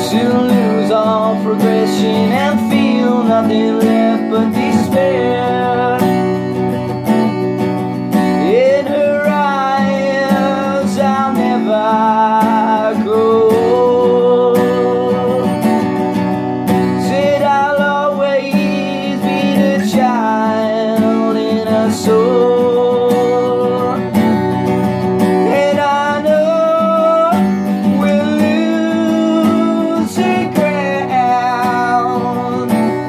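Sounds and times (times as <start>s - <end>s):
man singing: 0.0s - 7.3s, 8.1s - 33.0s
strummed acoustic guitar: 0.0s - 33.0s.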